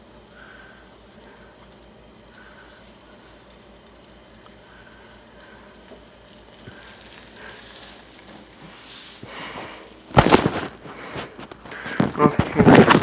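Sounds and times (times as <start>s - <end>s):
omelette sizzling in a pan: 0.0s - 12.8s.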